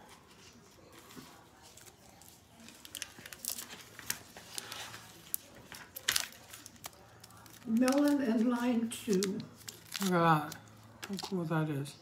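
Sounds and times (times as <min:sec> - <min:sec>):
plastic wrapper crinkling: 0:00.5 - 0:11.5.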